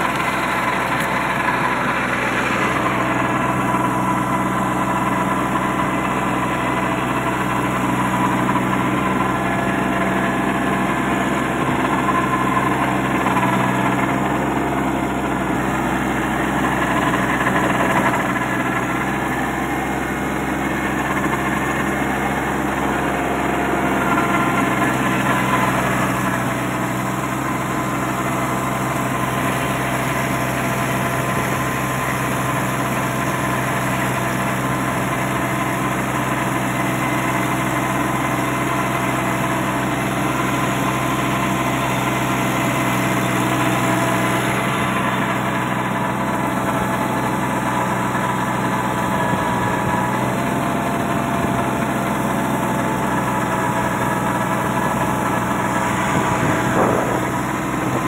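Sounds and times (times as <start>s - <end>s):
rotavator churning soil: 0.0s - 58.0s
tractor diesel engine running: 0.0s - 58.0s.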